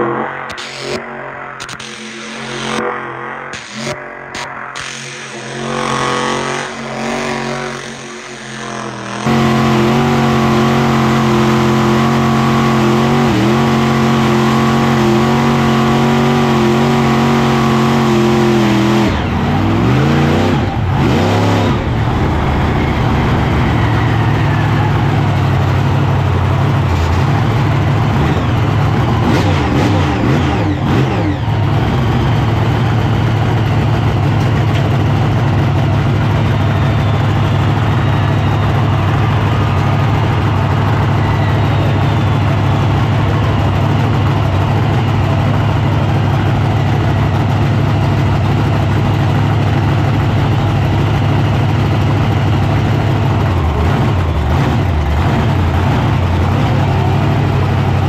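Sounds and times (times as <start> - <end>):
large vehicle engine revving: 0.0 - 58.0.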